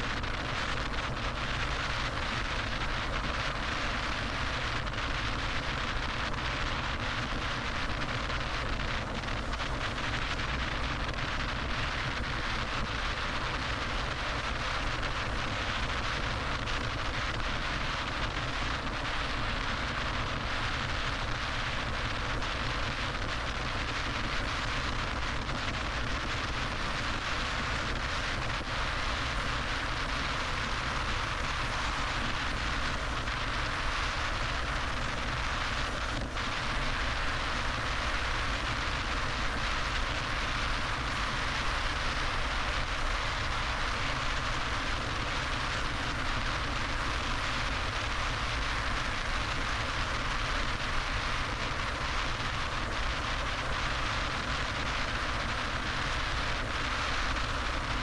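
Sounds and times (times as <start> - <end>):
car road and wind noise: 0.0 - 58.0.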